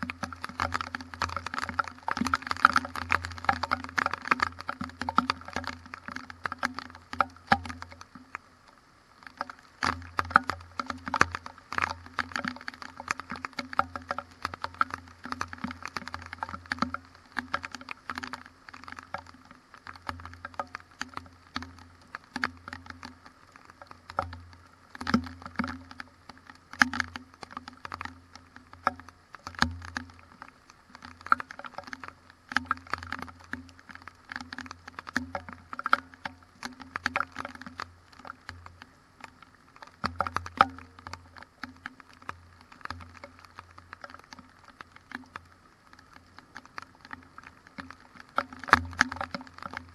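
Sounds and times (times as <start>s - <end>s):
rain tapping on camera: 0.0s - 49.9s.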